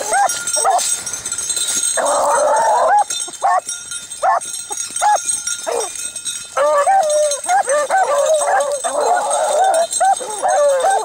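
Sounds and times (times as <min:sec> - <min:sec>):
hounds baying: 0:00.0 - 0:01.0, 0:01.8 - 0:11.0.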